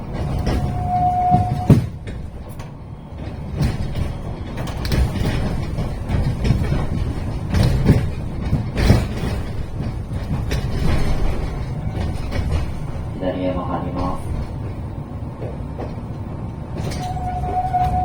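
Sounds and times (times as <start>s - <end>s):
streetcar rumbling on rails: 0.0s - 18.0s.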